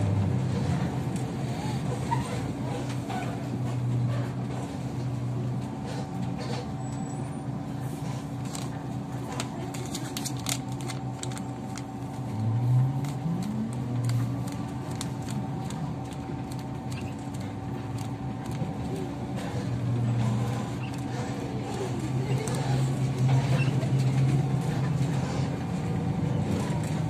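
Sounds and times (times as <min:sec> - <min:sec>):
trolleybus electric hum: 0:00.0 - 0:27.0.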